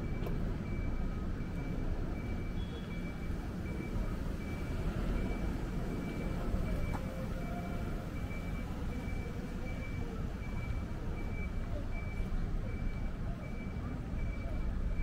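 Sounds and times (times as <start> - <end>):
faint high-pitched beep: 0.0 - 15.0
traffic rumble: 0.0 - 15.0.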